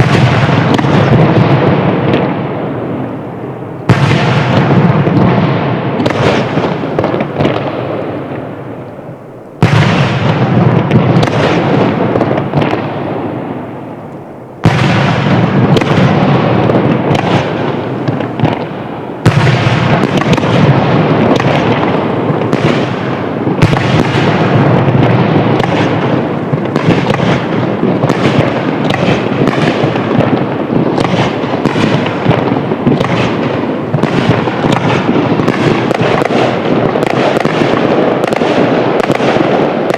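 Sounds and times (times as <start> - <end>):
fireworks booming and crackling: 0.0 - 39.9.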